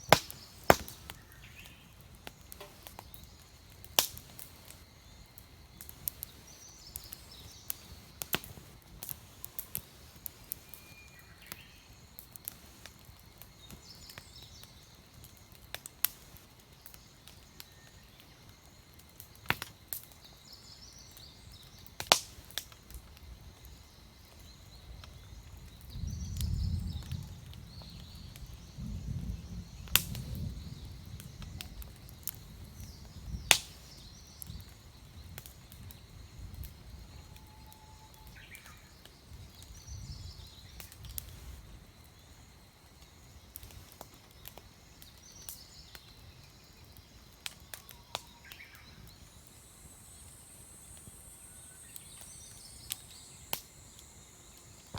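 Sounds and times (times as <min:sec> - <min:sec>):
campfire crackling and popping: 0:00.0 - 0:54.9
small birds chirping: 0:00.0 - 0:54.9.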